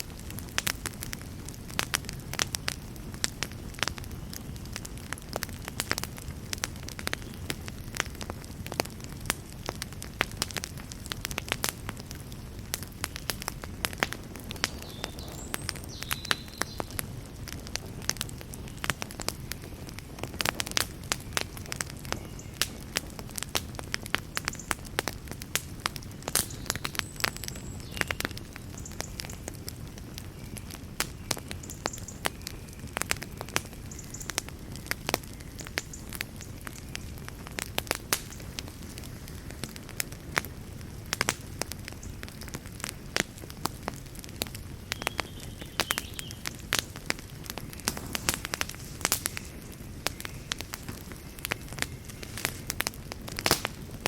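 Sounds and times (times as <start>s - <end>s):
faint hiss of fire: 0.0s - 54.0s
fire crackling and popping: 0.0s - 54.0s
low rumble of flames: 0.0s - 54.0s.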